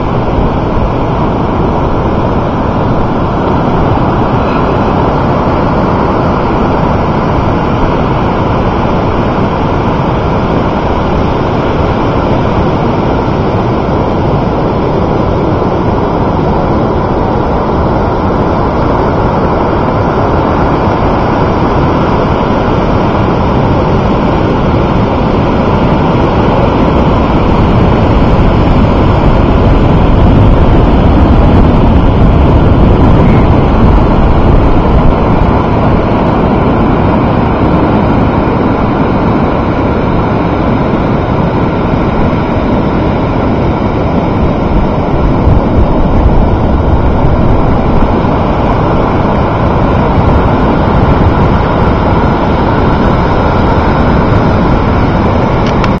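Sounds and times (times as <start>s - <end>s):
ocean surf: 0.0s - 56.0s
wind buffeting microphone: 0.0s - 56.0s.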